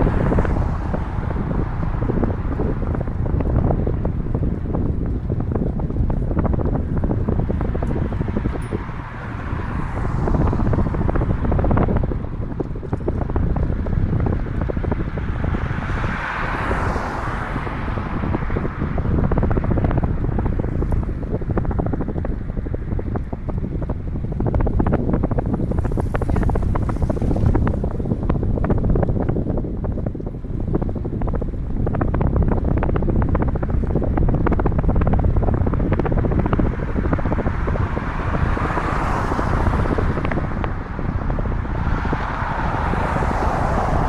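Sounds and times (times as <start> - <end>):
bicycle ticks and rattles: 0.0 - 16.2, 17.4 - 44.0
wind buffeting microphone: 0.0 - 44.0.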